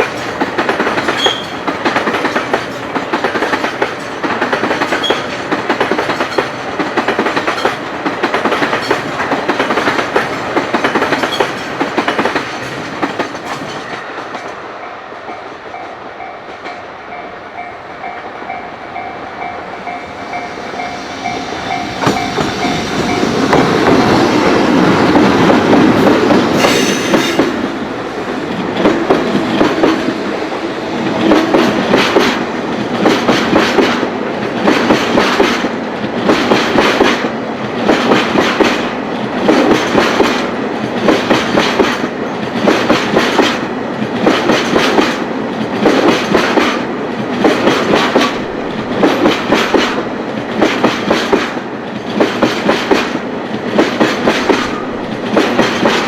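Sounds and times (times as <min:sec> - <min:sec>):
train wheels clacking over joints: 0:00.0 - 0:14.6, 0:15.3 - 0:27.8, 0:28.5 - 0:30.4, 0:31.0 - 0:56.0.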